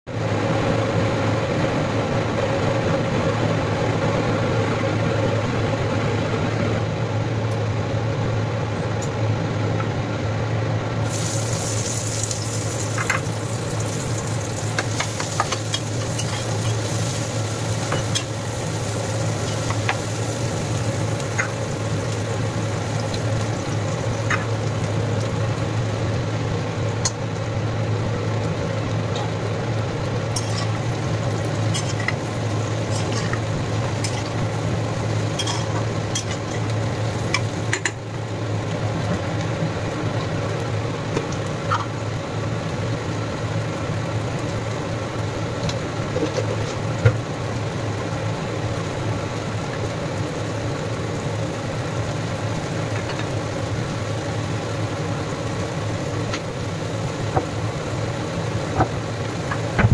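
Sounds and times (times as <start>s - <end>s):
oil sizzling in a frying pan: 11.0s - 59.9s.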